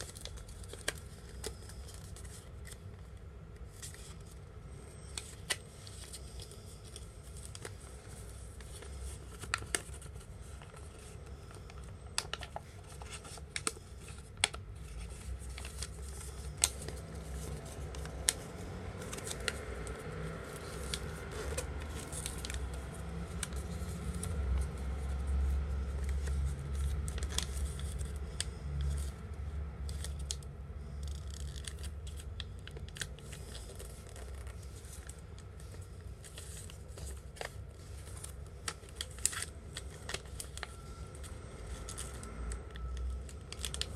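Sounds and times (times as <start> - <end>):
paper rustling: 0.0 - 3.0, 3.6 - 29.1, 29.8 - 43.9
low steady rumble: 0.0 - 43.9
paper crackling and snapping: 0.0 - 43.9.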